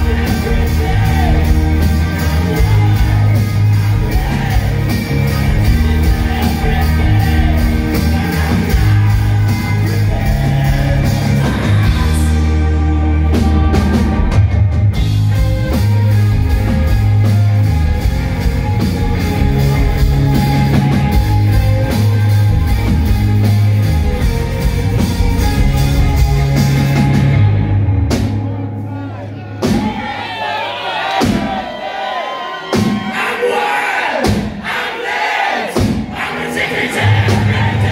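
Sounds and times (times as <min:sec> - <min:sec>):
rock band playing live: 0:00.0 - 0:31.7, 0:35.6 - 0:37.9.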